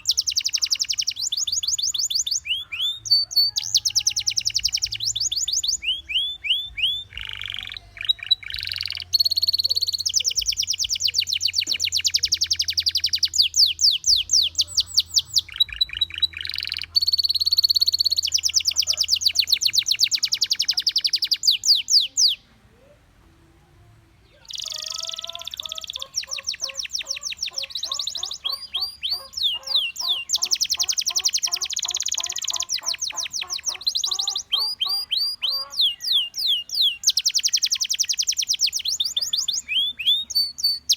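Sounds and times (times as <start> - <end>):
canary singing with trills: 0.0 - 23.2, 24.2 - 40.9.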